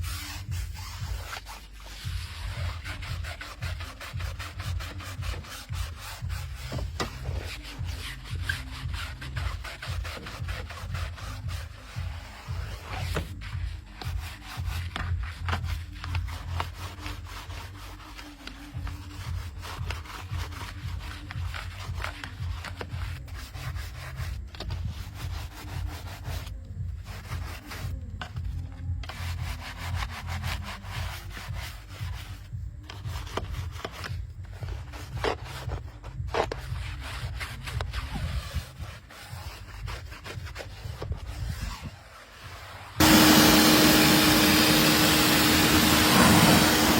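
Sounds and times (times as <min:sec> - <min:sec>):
scrubbing strokes on a surface: 0:00.0 - 0:46.9.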